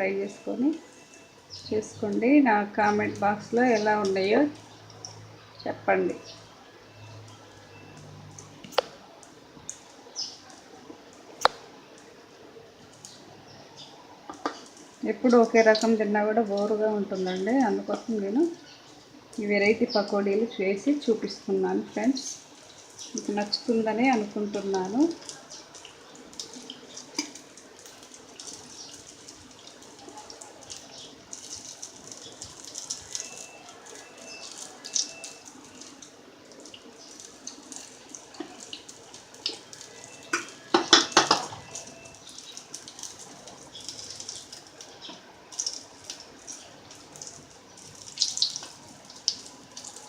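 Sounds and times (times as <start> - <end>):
deep-frying sizzle with crackles: 0.0 - 50.0.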